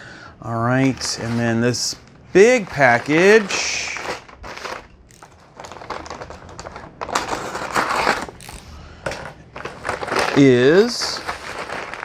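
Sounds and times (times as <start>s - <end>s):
packaging crinkling and rustling: 0.7s - 12.0s.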